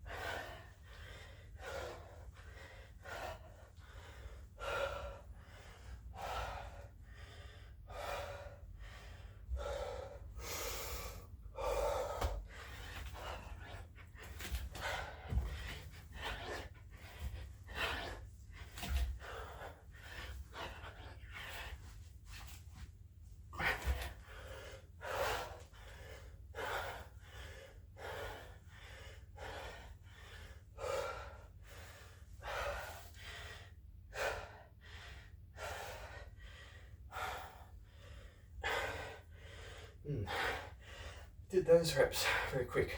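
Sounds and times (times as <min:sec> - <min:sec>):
man breathing hard and gasping: 0:00.0 - 0:22.8, 0:23.4 - 0:42.9.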